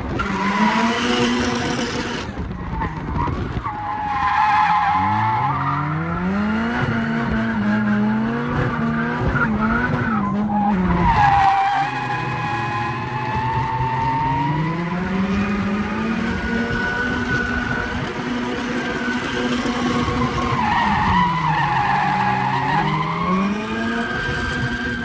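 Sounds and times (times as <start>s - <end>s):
car engine revving hard: 0.0s - 3.0s, 4.7s - 25.0s
tyres squealing and skidding: 0.1s - 6.2s, 8.7s - 15.8s, 16.4s - 25.0s.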